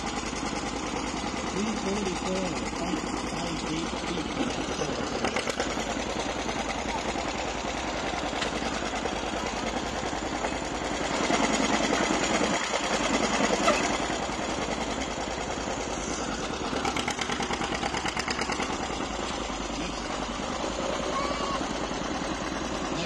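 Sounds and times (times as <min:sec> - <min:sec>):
tractor engine under load: 0:00.0 - 0:23.0.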